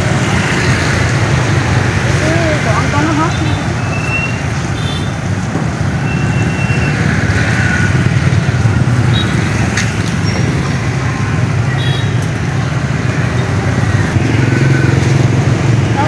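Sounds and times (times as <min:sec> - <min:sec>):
motorbike engines passing: 0:00.0 - 0:16.0.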